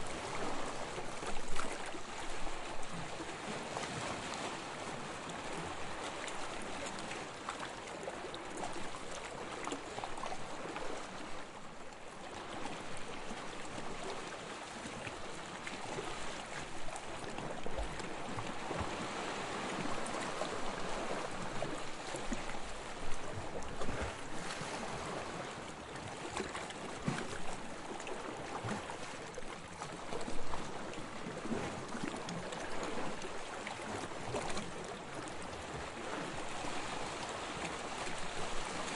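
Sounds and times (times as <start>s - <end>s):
small waves lapping on sand: 0.0s - 38.9s
water splashes: 0.0s - 38.9s.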